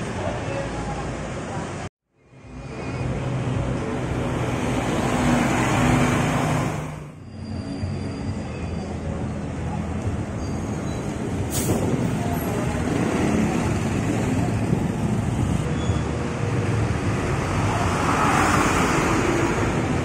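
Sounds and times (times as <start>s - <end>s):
street traffic: 0.0s - 20.0s
bus engine pulling away: 2.3s - 20.0s.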